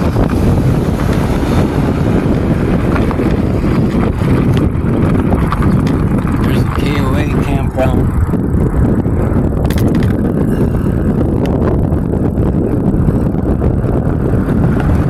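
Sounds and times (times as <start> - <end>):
e-bike running noise: 0.0 - 15.0
wind rumbling on microphone: 0.0 - 15.0.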